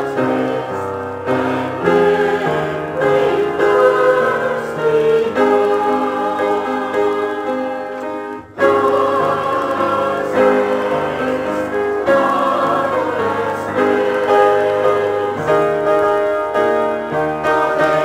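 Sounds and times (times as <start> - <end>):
choir singing: 0.0 - 18.0
piano accompaniment: 0.0 - 18.0.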